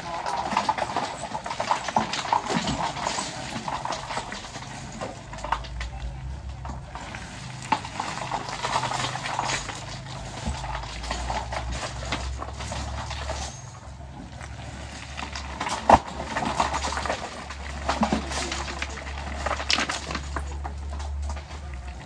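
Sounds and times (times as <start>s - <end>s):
diesel machinery droning: 0.0s - 22.0s
metal clanks and knocks: 0.0s - 22.0s.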